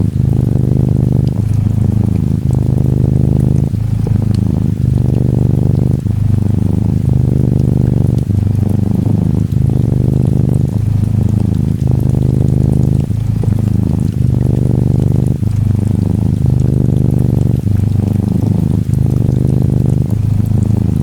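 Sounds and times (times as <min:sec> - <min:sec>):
gentle rain pattering: 0:00.0 - 0:21.0
kitten purring: 0:00.0 - 0:21.0.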